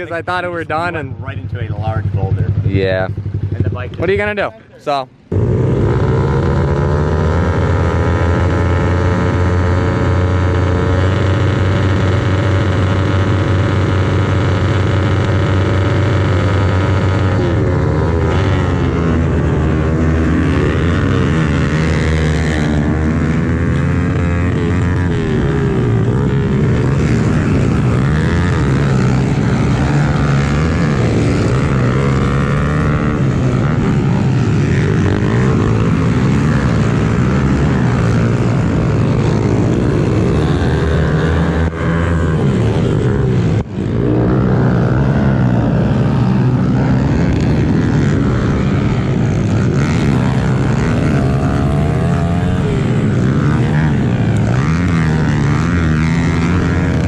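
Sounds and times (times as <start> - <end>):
other pit bikes racing: 0.0 - 57.0
pit bike engine revving: 0.0 - 57.0.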